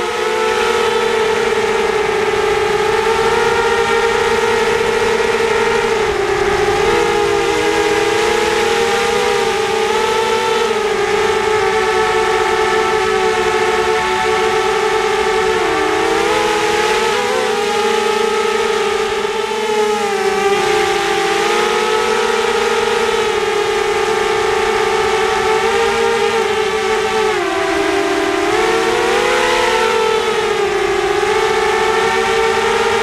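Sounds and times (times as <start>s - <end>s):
drone motors whining: 0.0s - 33.0s
propellers rushing: 0.0s - 33.0s.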